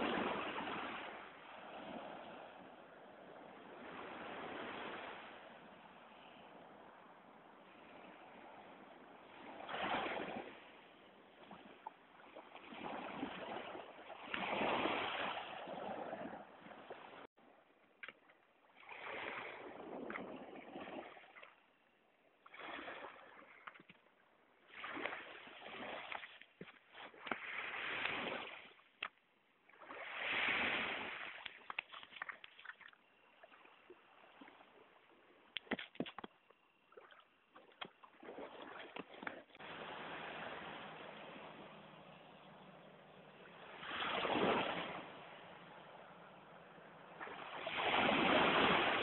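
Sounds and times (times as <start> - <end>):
small waves washing on shore: 0.0 - 17.4, 18.0 - 21.6, 22.4 - 49.0.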